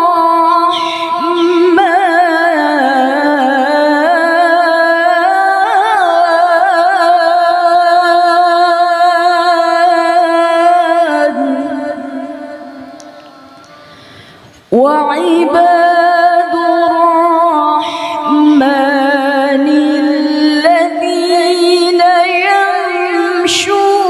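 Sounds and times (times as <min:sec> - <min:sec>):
woman chanting melodically: 0:00.0 - 0:13.9, 0:14.7 - 0:24.0.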